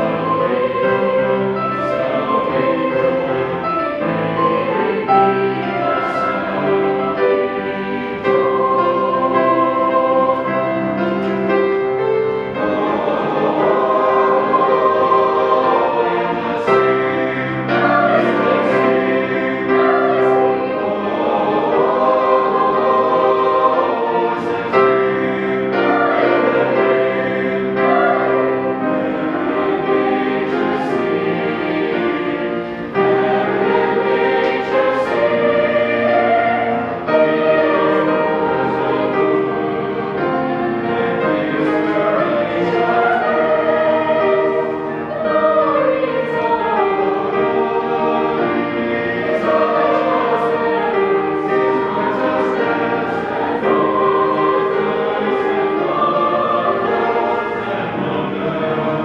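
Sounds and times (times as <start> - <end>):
choir singing a slow piece: 0.0 - 59.0.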